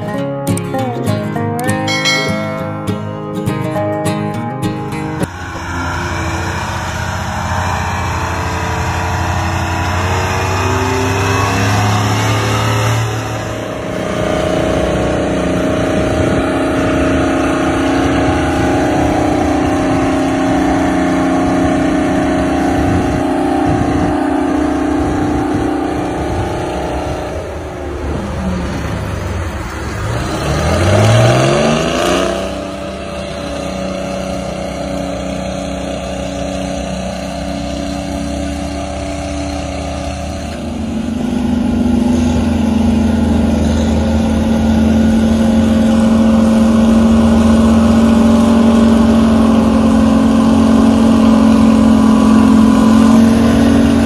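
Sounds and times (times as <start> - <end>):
diesel engine running and revving: 0.0 - 54.0.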